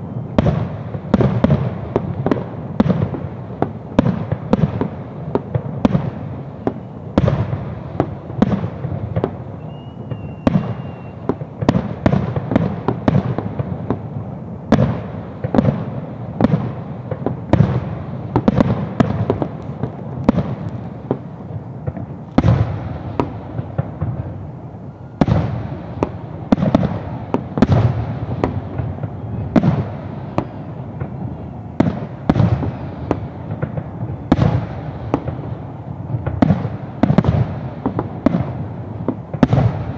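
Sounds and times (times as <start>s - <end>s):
fireworks bursting with bangs: 0.0s - 39.9s.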